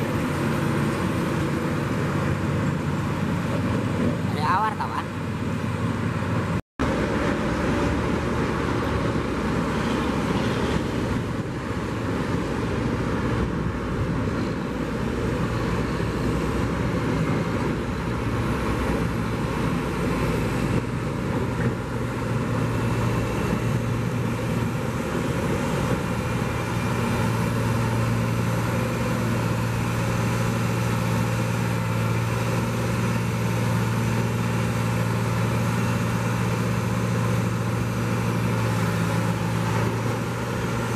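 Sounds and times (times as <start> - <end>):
engine humming: 0.0 - 40.9
highway traffic noise: 0.0 - 40.9.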